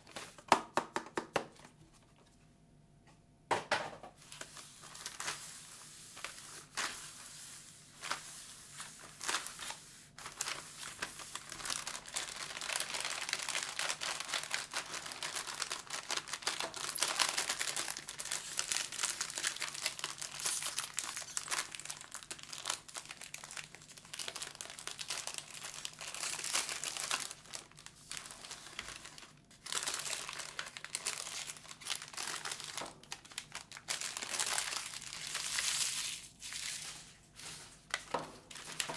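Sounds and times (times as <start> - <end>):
plastic wrapper crinkling: 4.2 - 38.9.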